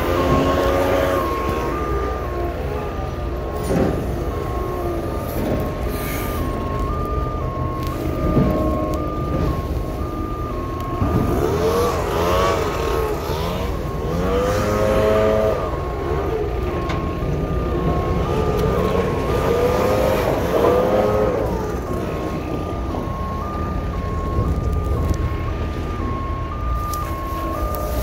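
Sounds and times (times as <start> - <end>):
low engine rumble: 0.0 - 28.0
truck back-up alarm warbling: 0.0 - 28.0.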